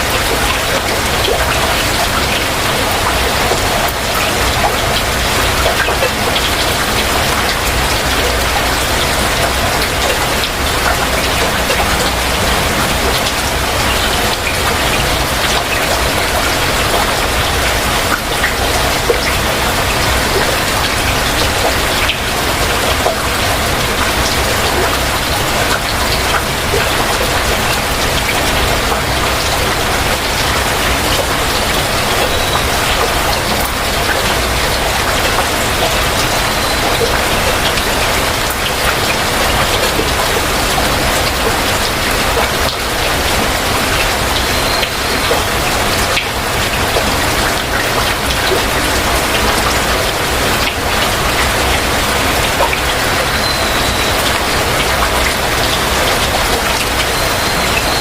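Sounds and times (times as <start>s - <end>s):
heavy rain falling: 0.0s - 58.0s
raindrops ticking: 0.0s - 58.0s.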